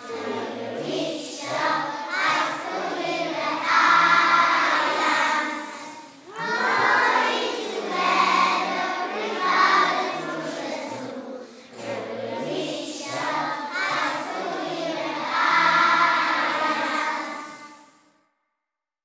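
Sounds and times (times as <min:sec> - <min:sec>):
children's choir singing: 0:00.0 - 0:18.1.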